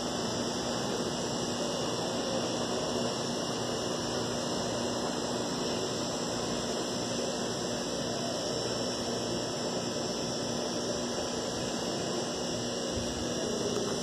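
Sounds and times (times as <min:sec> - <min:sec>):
even street hiss: 0:00.0 - 0:14.0.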